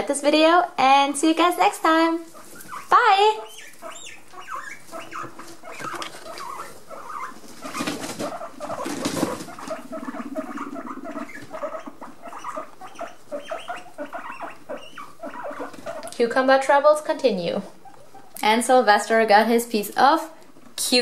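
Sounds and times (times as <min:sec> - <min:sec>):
guinea pigs squeaking: 0:00.0 - 0:21.0.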